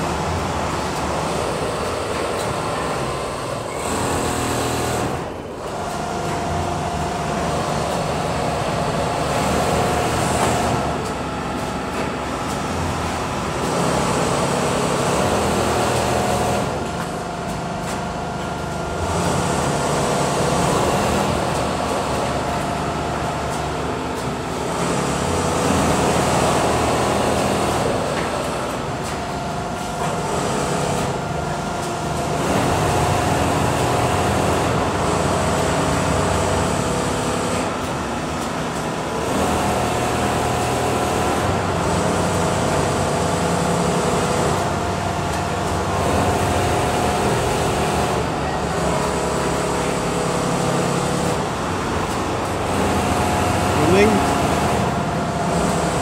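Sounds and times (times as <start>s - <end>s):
sewing machines running: 0.0s - 56.0s.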